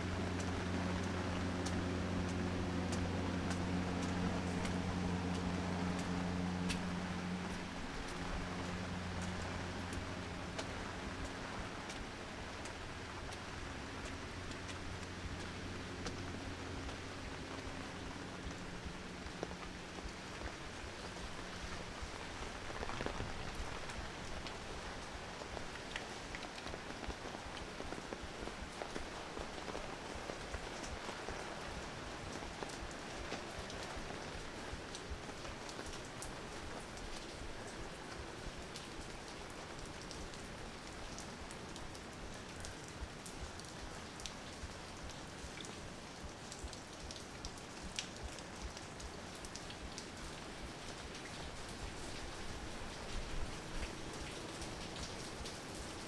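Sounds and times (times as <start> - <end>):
steady low hum: 0.0 - 46.3
rain falling: 0.0 - 56.0
sharp drips: 0.0 - 56.0.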